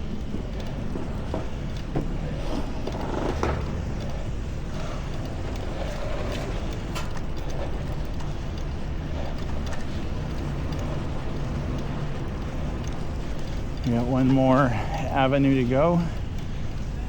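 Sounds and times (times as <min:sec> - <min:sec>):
faint clicks: 0:00.0 - 0:17.0
street traffic: 0:00.0 - 0:17.0
wind rumble: 0:00.0 - 0:17.0.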